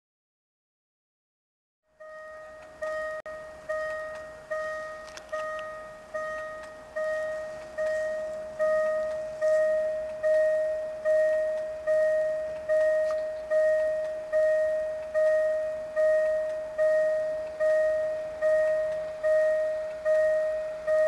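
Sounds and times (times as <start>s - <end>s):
level-crossing warning bell ringing: 2.0s - 21.0s.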